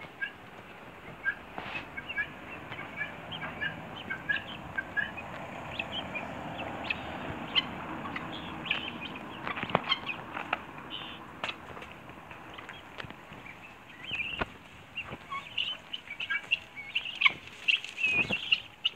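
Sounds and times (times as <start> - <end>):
guinea fowl chirping: 0.1 - 18.9.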